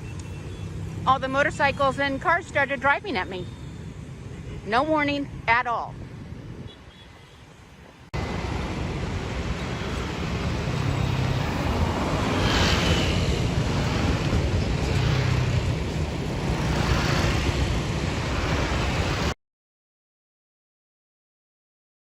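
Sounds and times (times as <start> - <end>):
street traffic: 0.0 - 19.4.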